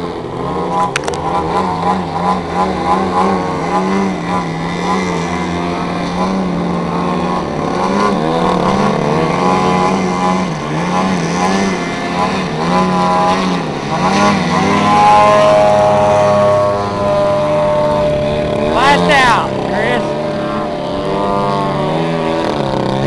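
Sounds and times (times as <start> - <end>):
model plane engines: 0.0 - 23.0.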